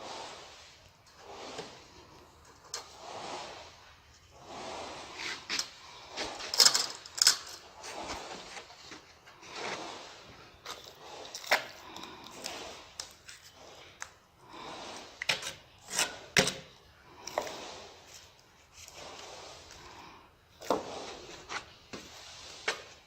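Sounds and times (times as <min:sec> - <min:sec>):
hand tools scraping on mortar: 0:00.0 - 0:23.0.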